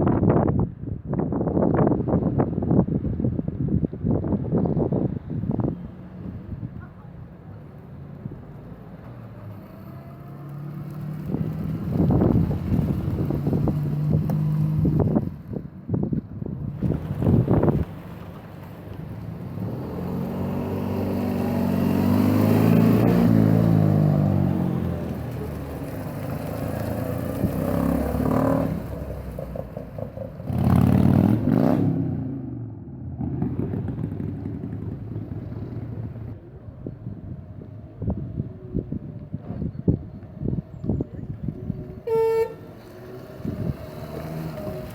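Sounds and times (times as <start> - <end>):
wind buffeting microphone: 0.0 - 8.5, 10.5 - 31.8, 33.2 - 44.9
car engine accelerating: 7.6 - 15.6, 16.7 - 44.9.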